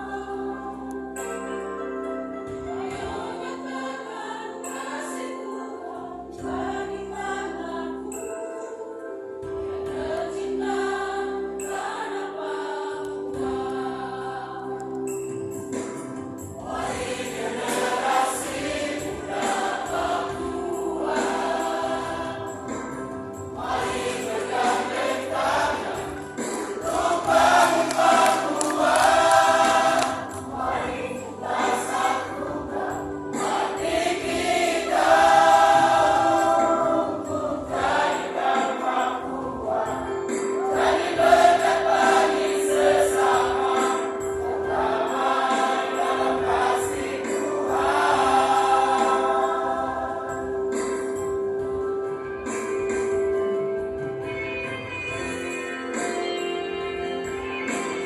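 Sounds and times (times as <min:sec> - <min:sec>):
choir singing in parts: 0:00.0 - 0:53.5.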